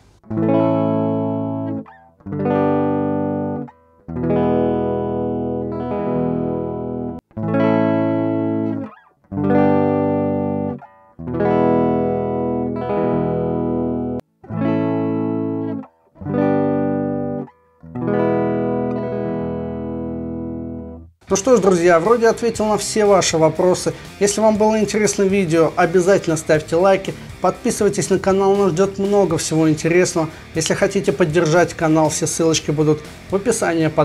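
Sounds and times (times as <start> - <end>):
unamplified electric guitar: 0.0 - 34.0.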